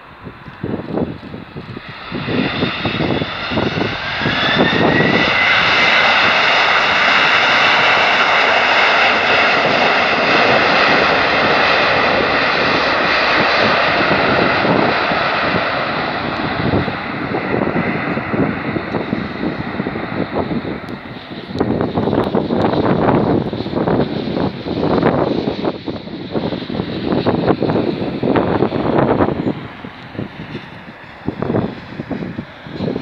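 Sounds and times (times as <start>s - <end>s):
jet engines roaring: 0.0s - 33.0s
wind buffeting microphone: 0.0s - 33.0s.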